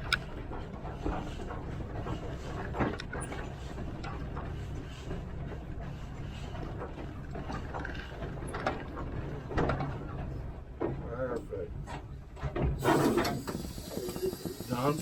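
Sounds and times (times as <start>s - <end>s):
steam locomotive rumbling: 0.0s - 10.8s, 12.1s - 15.0s.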